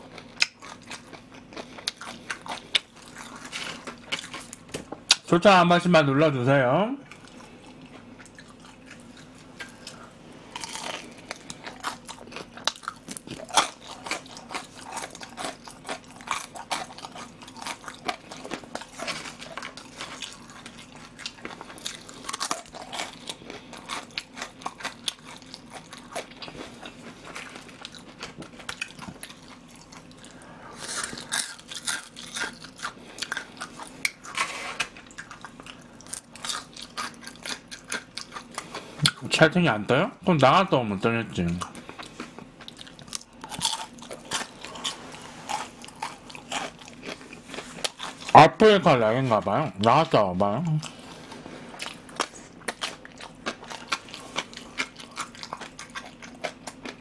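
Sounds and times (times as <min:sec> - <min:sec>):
chewing crispy food: 0:00.0 - 0:05.3, 0:07.0 - 0:40.6, 0:41.4 - 0:57.0.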